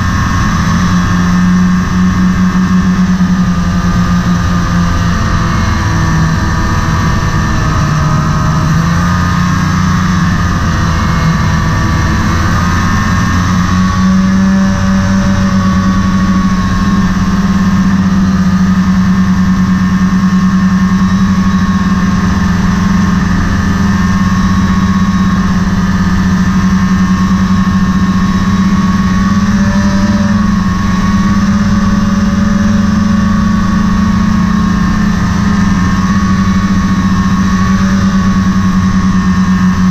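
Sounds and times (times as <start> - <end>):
snowmobile engine running: 0.0 - 39.9
wind noise on microphone: 0.0 - 39.9.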